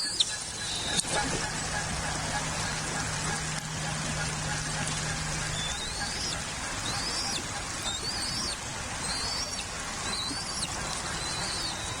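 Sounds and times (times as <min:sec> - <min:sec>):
eaglets peeping: 0:00.0 - 0:12.0.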